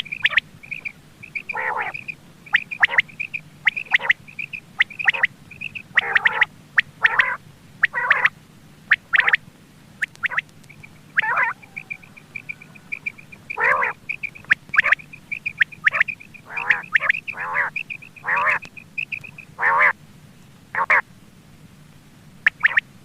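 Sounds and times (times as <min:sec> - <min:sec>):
quail harsh calls: 0:00.0 - 0:09.4, 0:10.0 - 0:20.0, 0:20.8 - 0:21.0, 0:22.5 - 0:22.8.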